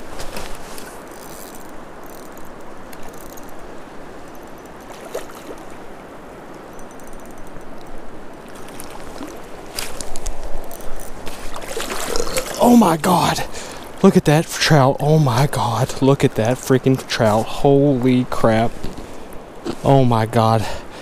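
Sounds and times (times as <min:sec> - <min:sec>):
river water rushing: 0:00.0 - 0:19.7.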